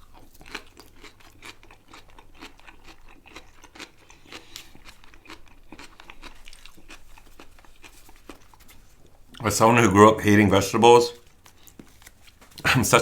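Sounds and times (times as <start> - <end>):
chewing crunchy vegetables: 0.0 - 9.8, 10.8 - 13.0.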